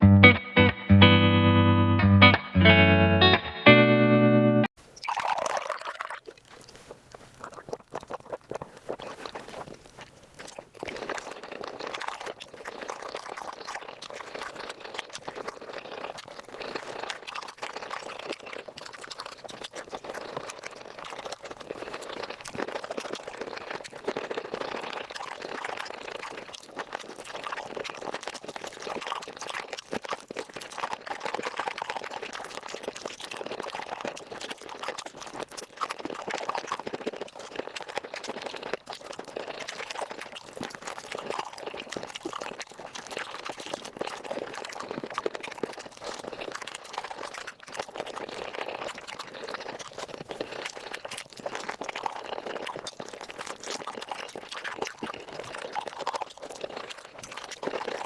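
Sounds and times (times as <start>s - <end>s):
wet chewing and crunching: 4.8s - 58.0s.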